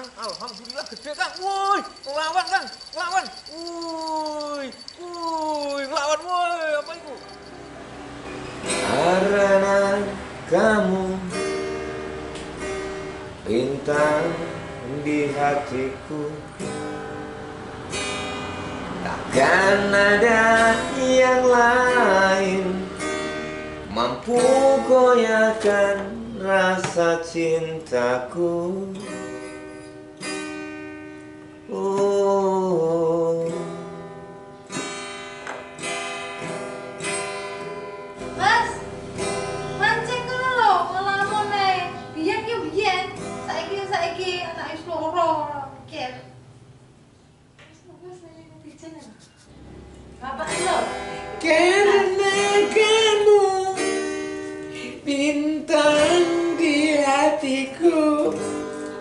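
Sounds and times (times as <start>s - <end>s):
acoustic guitar strummed: 4.3s - 44.1s, 49.6s - 59.0s.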